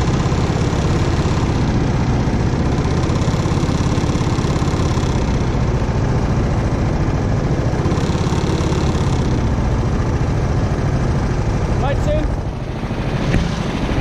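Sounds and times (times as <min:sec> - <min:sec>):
go-kart engine idling: 0:00.0 - 0:14.0.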